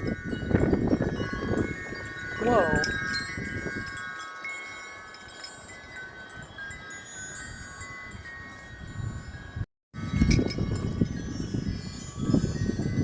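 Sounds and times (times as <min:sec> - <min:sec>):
wind chimes ringing: 0:00.0 - 0:13.0
wind rumbling on microphone: 0:00.0 - 0:13.0.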